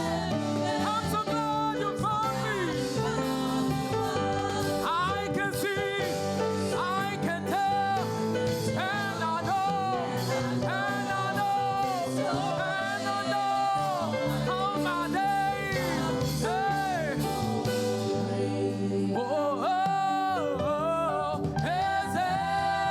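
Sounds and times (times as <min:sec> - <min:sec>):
band accompaniment: 0:00.0 - 0:22.9
choir singing gospel: 0:00.0 - 0:22.9.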